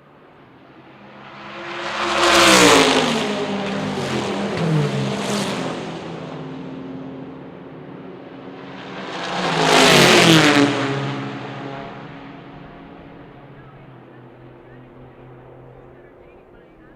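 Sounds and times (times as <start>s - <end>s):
race cars passing at full throttle: 0.0s - 16.9s.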